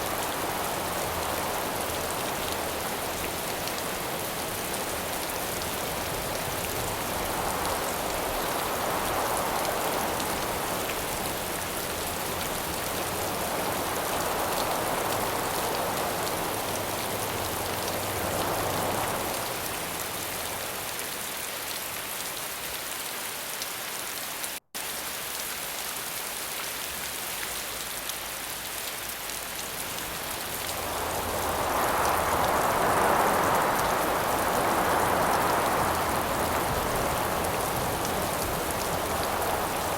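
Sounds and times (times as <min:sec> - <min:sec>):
wind gusts: 0:00.0 - 0:22.0, 0:29.1 - 0:39.9
steady rain falling: 0:00.0 - 0:39.9.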